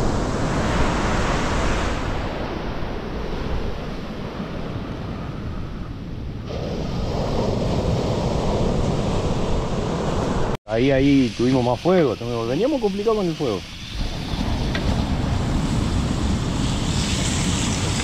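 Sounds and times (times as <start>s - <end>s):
waves washing up beach: 0.0s - 5.1s, 6.5s - 18.0s
ocean surf rumble: 0.0s - 18.0s.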